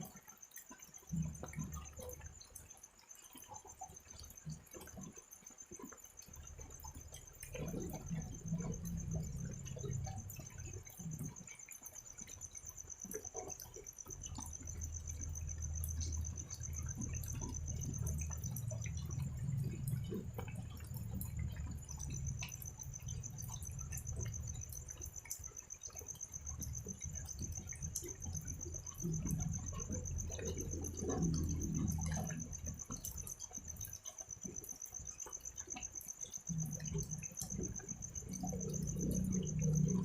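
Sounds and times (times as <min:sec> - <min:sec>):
cricket trilling: 0:00.0 - 0:40.0
drizzle dripping: 0:00.0 - 0:40.0.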